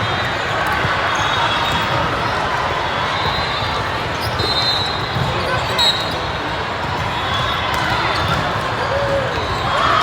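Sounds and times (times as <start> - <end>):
crowd din in a large hall: 0.0 - 10.0.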